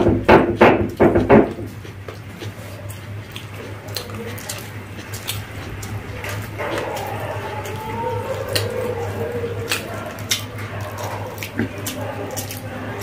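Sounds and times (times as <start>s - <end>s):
steady low hum: 0.0s - 13.0s
wet chewing and mouth-smacking: 0.8s - 13.0s.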